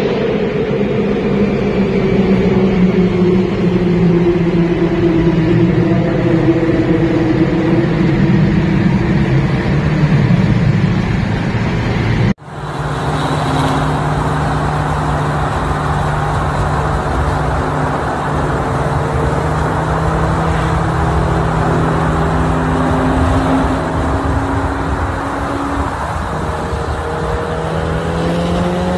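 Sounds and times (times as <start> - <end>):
car engine: 0.0 - 28.9
tyre road noise: 0.0 - 28.9.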